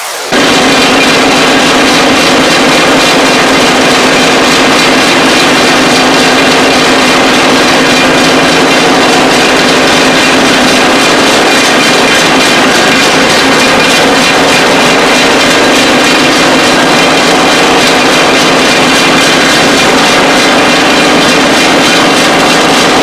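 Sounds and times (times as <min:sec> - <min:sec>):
vibrating table buzzing hum: 0:00.3 - 0:23.0.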